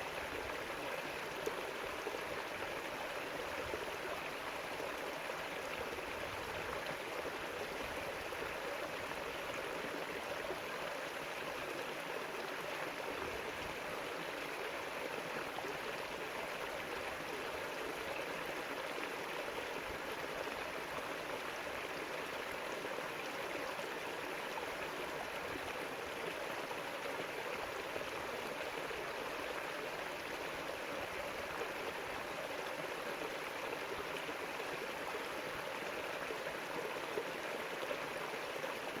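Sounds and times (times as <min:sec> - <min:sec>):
river water rushing and gurgling: 0:00.0 - 0:39.0.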